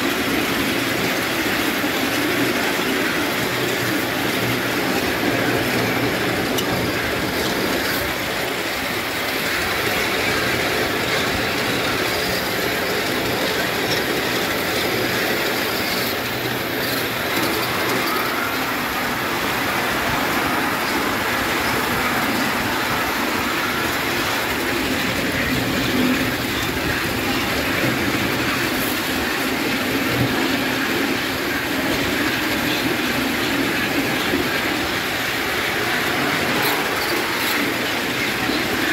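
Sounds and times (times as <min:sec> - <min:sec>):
model steam locomotive running: 0:00.0 - 0:38.9
wheels running on rails: 0:00.0 - 0:38.9.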